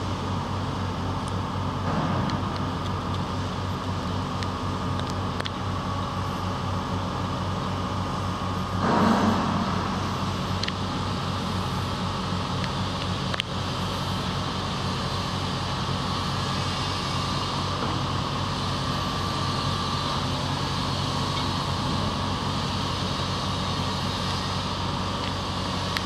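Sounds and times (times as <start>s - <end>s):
crane diesel engine running: 0.0s - 26.0s.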